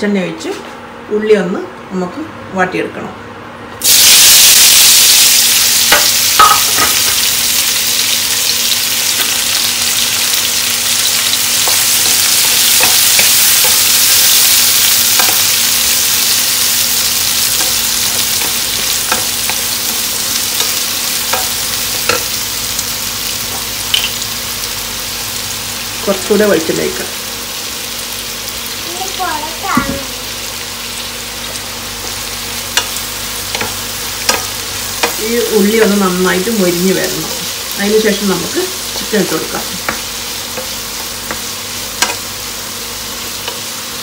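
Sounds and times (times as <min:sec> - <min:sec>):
shallots sizzling in oil: 0:03.8 - 0:44.0.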